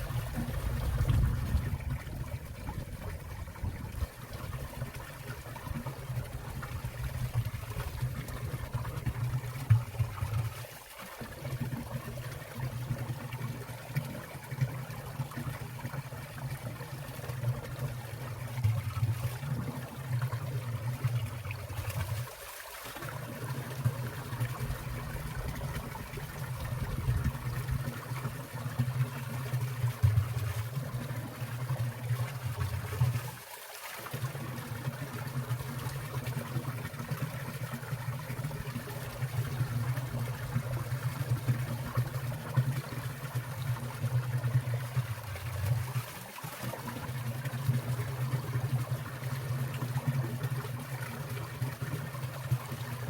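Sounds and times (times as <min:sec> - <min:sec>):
stream trickling and splashing: 0:00.0 - 0:53.0.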